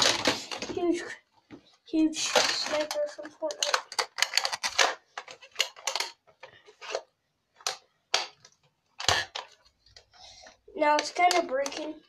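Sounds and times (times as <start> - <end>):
plastic toy clicks and knocks: 0.0 - 1.0, 2.2 - 12.0.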